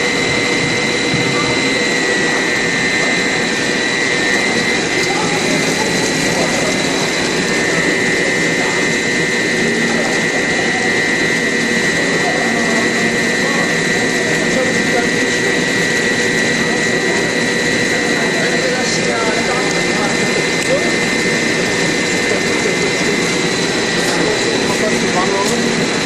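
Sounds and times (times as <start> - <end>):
production machinery with high whine: 0.0 - 26.0.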